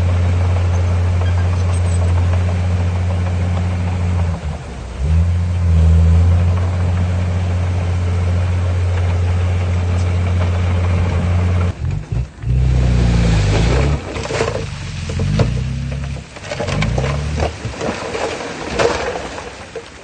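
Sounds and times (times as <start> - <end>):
heavy diesel engine running: 0.0 - 17.7
rough scraping and rattling: 0.0 - 20.0.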